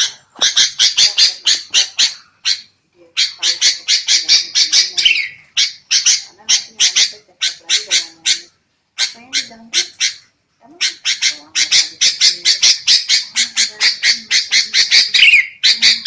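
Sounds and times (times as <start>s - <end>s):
bulbuls harsh chattering calls: 0.0s - 16.0s.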